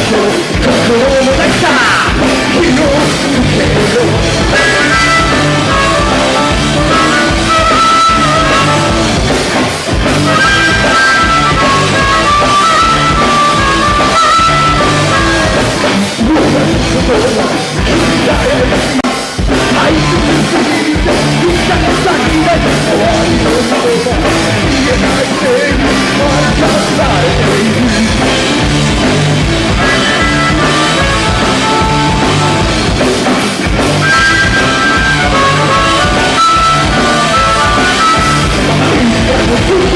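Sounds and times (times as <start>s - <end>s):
lead guitar lines: 0.0s - 39.9s
rock band playing live: 0.0s - 39.9s.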